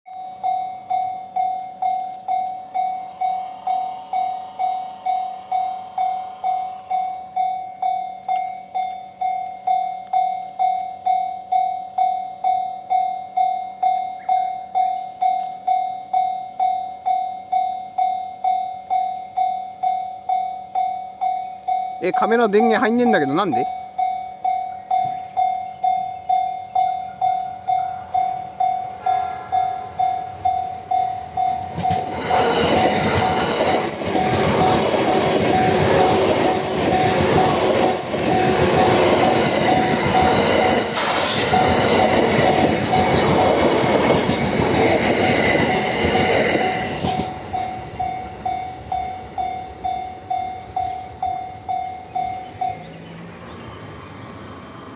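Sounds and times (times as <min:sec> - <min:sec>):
level-crossing warning bell ringing: 0:00.1 - 0:53.9
train passing at speed: 0:00.4 - 0:15.5, 0:18.0 - 0:54.9.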